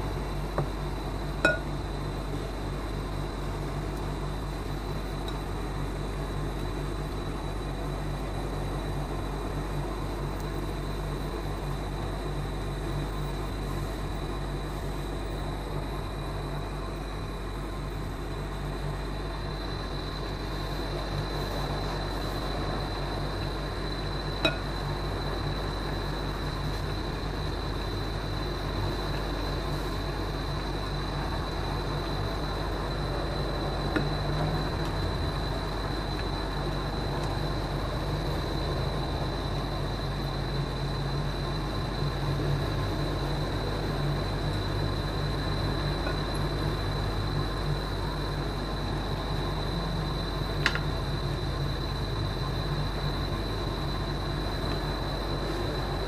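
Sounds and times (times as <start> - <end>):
high-pitched whine: 0.0 - 3.4, 13.0 - 56.0
induction cooker humming: 0.0 - 56.0.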